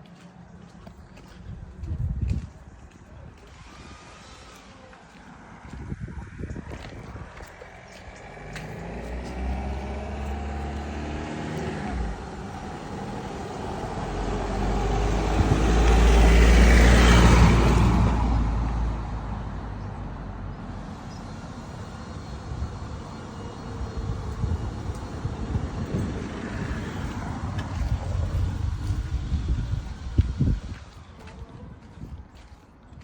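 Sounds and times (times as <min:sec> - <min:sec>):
vehicle driving past: 0:02.3 - 0:31.8.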